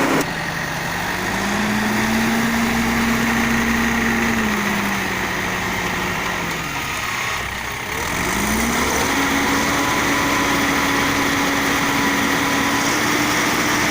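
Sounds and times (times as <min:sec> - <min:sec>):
concrete mixer engine running: 0:00.0 - 0:13.9.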